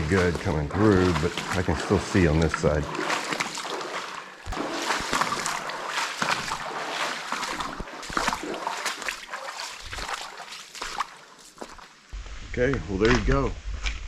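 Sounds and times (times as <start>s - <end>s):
feet splashing in shallow water: 0.0s - 12.1s.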